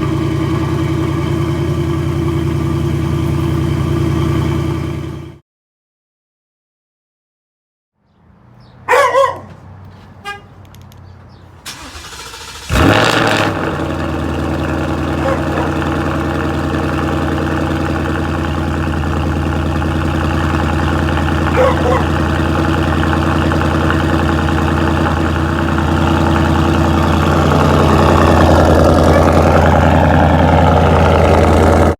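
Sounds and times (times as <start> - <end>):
car engine starting and idling: 0.0 - 5.4, 11.6 - 31.9.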